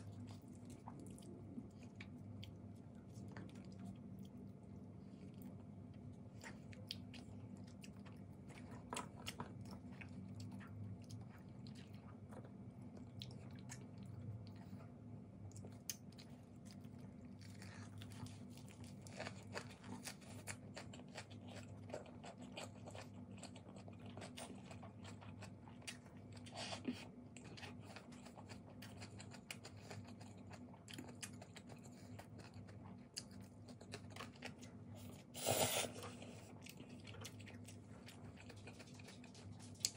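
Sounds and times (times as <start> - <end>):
faint chewing and crunching: 0.0 - 39.9
steady low hum: 0.0 - 39.9.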